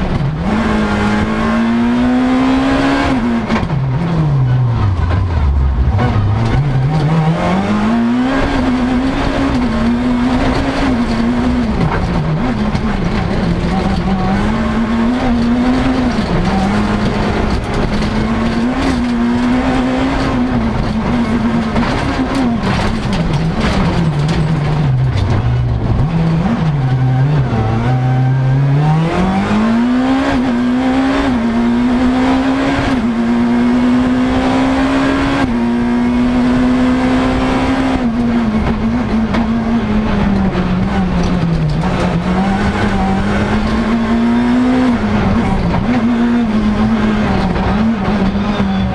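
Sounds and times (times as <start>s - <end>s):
car engine revving through gears: 0.0s - 48.9s.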